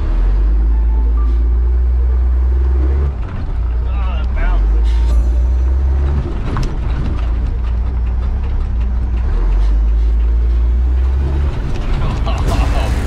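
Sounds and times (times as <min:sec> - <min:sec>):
heavy diesel truck engines: 0:00.0 - 0:13.0.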